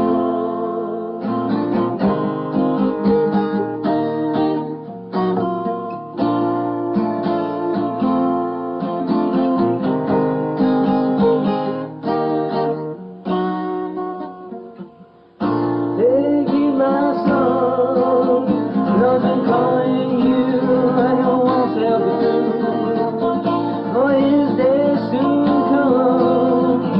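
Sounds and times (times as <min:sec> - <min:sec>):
person singing melody: 0:00.0 - 0:26.9
strummed acoustic guitar: 0:00.0 - 0:26.9.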